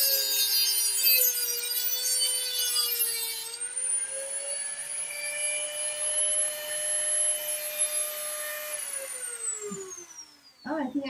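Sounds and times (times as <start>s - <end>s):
rotary tool whining: 0.0s - 11.0s.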